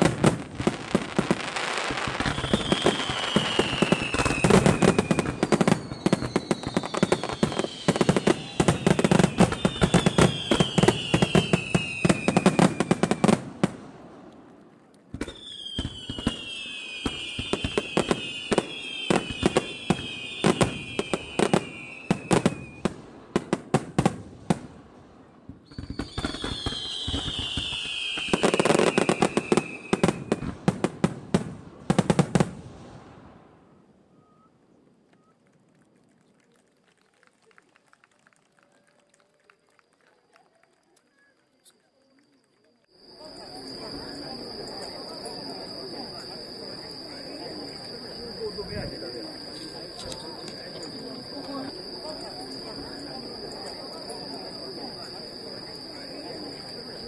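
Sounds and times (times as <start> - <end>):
fireworks whistles gliding down: 0.0 - 13.9, 15.1 - 24.7, 25.5 - 33.5, 41.1 - 57.0
fireworks bangs and crackling: 0.0 - 33.6, 42.9 - 57.0.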